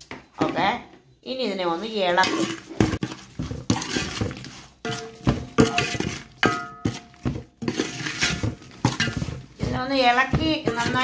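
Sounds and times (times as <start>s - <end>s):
spatula scraping metal pan: 1.7s - 11.0s.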